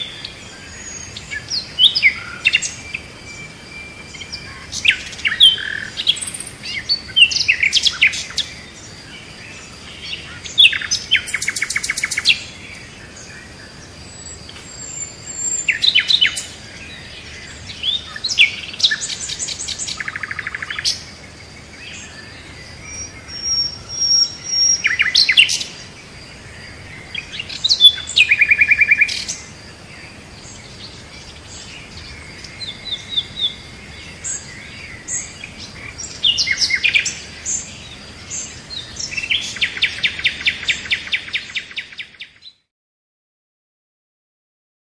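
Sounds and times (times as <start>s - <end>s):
songbirds chirping and trilling: 0.0s - 42.7s.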